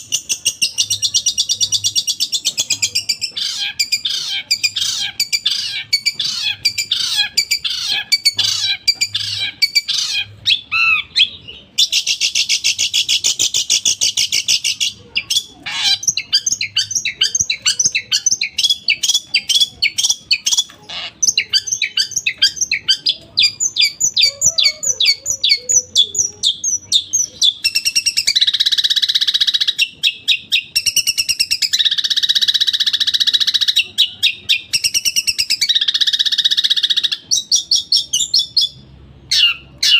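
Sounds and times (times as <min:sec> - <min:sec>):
shrike chattering song: 0:00.0 - 0:39.9.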